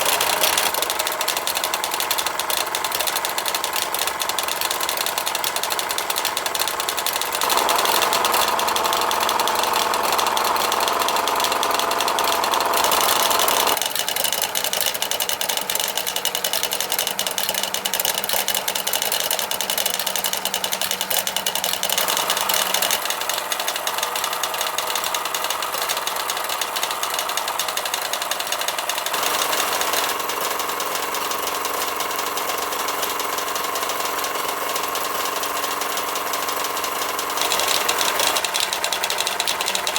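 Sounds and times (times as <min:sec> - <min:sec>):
toy steam engine clatter: 0:00.0 - 0:39.9.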